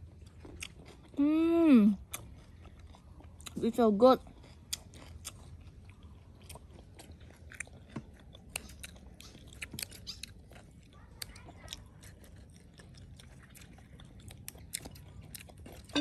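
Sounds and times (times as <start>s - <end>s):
chewing: 0.0s - 1.3s, 1.9s - 16.0s.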